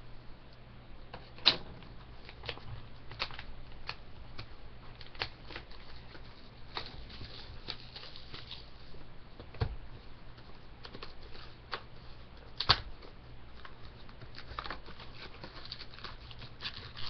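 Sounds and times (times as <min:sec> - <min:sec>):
cardboard and wrapper rustling: 0:02.0 - 0:09.0, 0:10.3 - 0:17.0.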